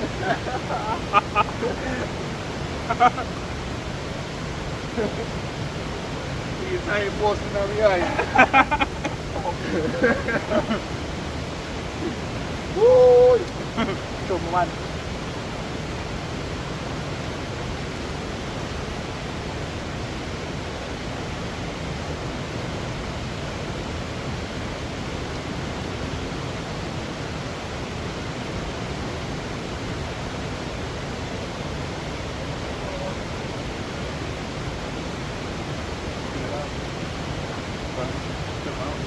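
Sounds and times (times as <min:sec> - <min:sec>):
river water rushing: 0:00.0 - 0:39.0.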